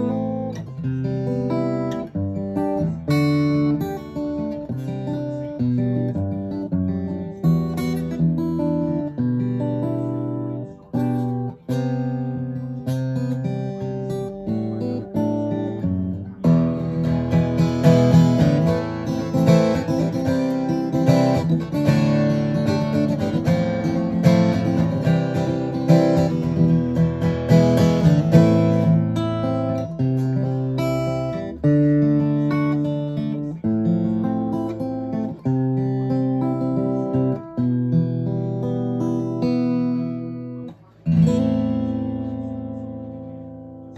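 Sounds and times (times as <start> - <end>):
acoustic guitar chords: 0.0 - 43.9.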